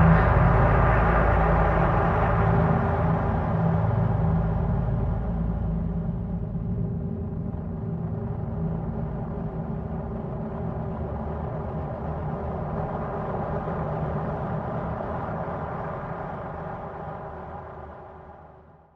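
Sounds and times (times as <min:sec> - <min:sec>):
dark ambient drone music: 0:00.0 - 0:18.6.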